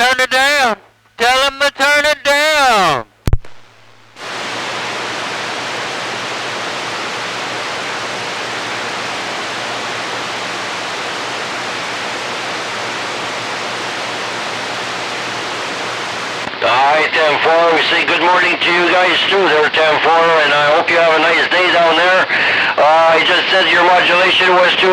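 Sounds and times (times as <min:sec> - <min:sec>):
radio static hiss: 0:00.0 - 0:24.9.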